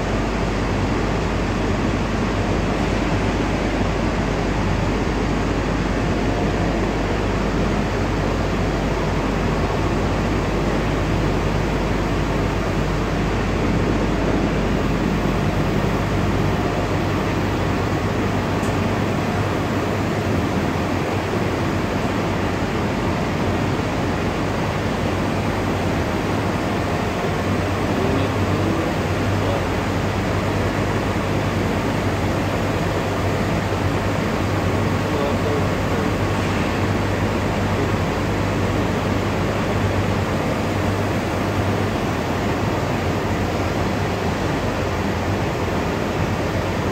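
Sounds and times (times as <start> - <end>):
loud industrial machinery din: 0.0 - 46.9.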